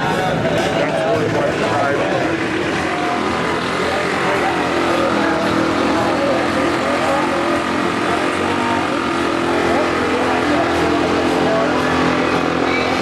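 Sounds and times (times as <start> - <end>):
crowd chatter: 0.0 - 13.0
small minibike engines running: 0.0 - 13.0.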